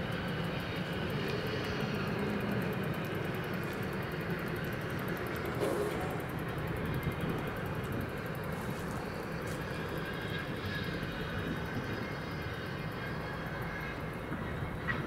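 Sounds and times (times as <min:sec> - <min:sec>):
broad rumble at level crossing: 0:00.0 - 0:15.0.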